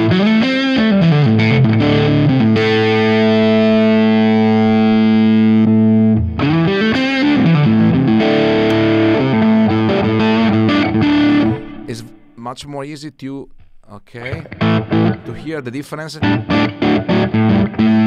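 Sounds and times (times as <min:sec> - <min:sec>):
distorted electric guitar: 0:00.0 - 0:12.4, 0:13.4 - 0:18.0.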